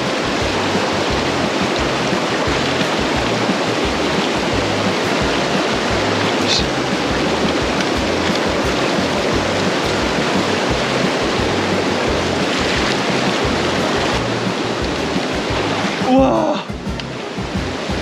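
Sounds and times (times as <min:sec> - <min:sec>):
background music bass line: 0:00.0 - 0:18.0
stream rushing over rocks: 0:00.0 - 0:18.0.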